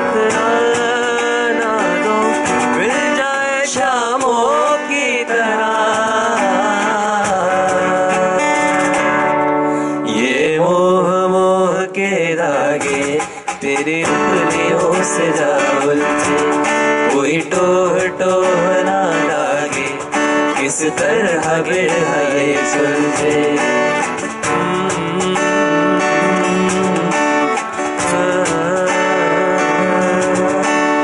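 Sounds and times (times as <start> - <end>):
man singing: 0.0 - 31.0
strummed acoustic guitars: 0.0 - 31.0.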